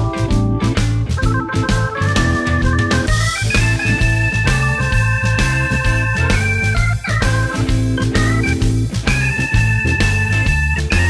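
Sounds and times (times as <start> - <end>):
held keyboard chords: 0.0 - 11.0
steady bass beat: 0.0 - 11.0
stepping melody line: 0.0 - 11.0.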